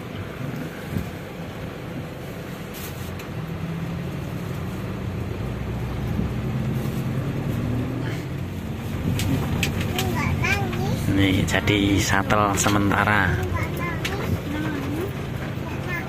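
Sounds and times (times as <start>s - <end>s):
van engine running: 0.0s - 16.0s.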